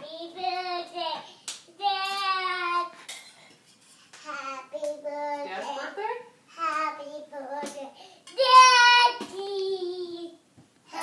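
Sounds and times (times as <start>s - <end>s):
toddler girl singing: 0.0s - 3.1s, 4.2s - 5.8s, 6.5s - 11.0s.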